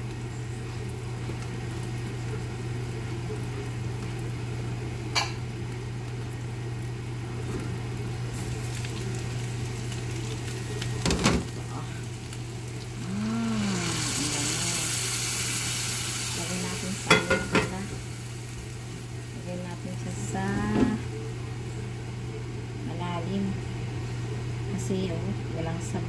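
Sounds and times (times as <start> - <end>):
meat sizzling in a pot: 0.0 - 23.0
low steady hum: 0.0 - 26.0.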